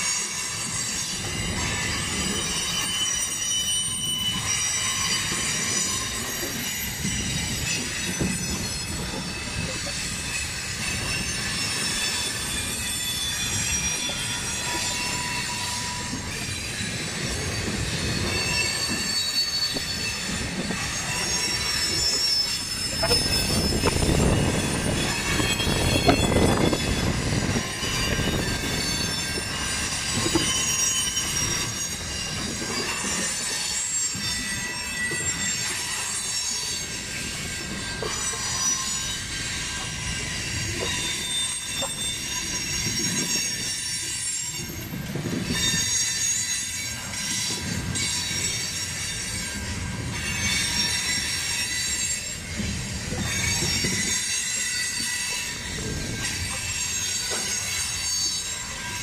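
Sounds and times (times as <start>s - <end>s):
train wheels rumbling on track: 0.0s - 59.0s
train wheels squealing on rails: 0.0s - 59.0s.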